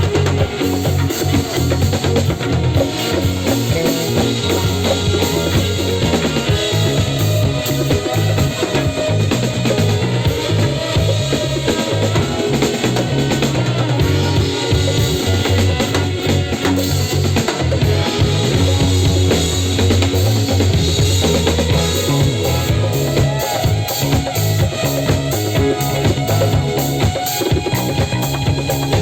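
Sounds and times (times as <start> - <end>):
drum kit beat: 0.0 - 29.0
live band playing trance music: 0.0 - 29.0
sustained bass line: 0.0 - 29.0.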